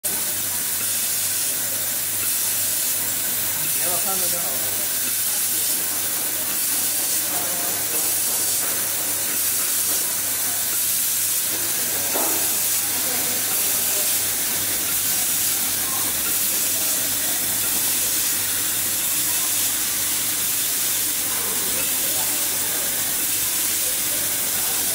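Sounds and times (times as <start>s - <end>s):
high-pitched welding hiss: 0.1s - 24.9s.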